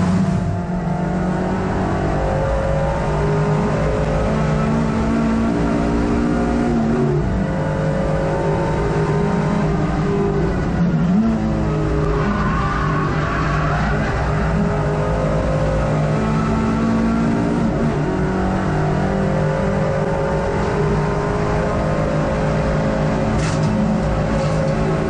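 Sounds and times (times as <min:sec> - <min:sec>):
race car engine from cabin: 0:00.0 - 0:25.0
road and wind noise: 0:00.0 - 0:25.0.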